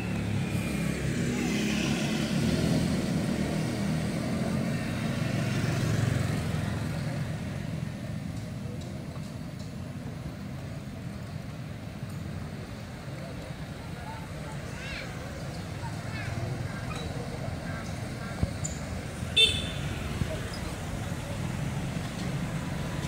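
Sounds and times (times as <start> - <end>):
road vehicle passing: 0.0 - 8.7, 12.5 - 23.0.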